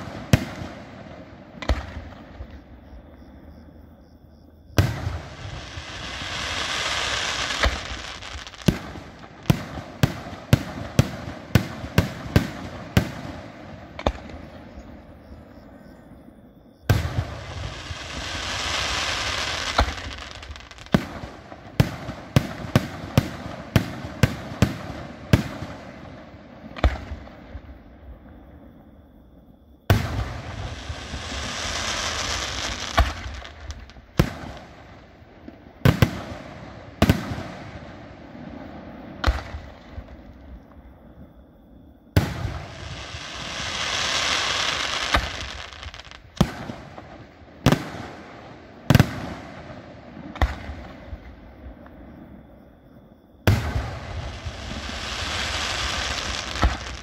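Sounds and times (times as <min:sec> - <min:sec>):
rushing hiss of fireworks: 0:00.0 - 0:02.7, 0:04.8 - 0:15.8, 0:16.9 - 0:27.9, 0:29.8 - 0:40.8, 0:42.1 - 0:52.1, 0:53.5 - 0:57.0.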